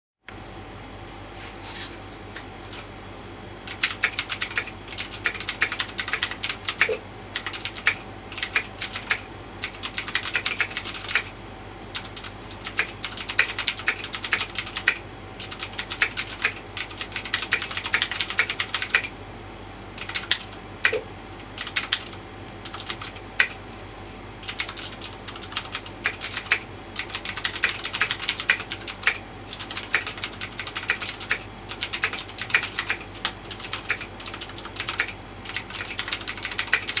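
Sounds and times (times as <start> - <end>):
mechanical keyboard typing: 3.7 - 11.3, 11.9 - 19.1, 20.0 - 23.6, 24.4 - 37.0.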